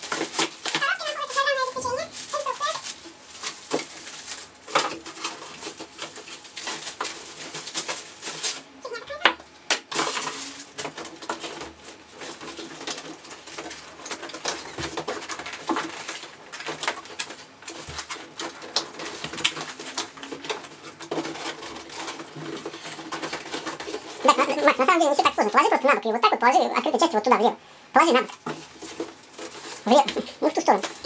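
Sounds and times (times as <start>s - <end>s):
cardboard packing rustling: 0.0s - 9.2s, 9.8s - 27.2s, 28.0s - 31.0s.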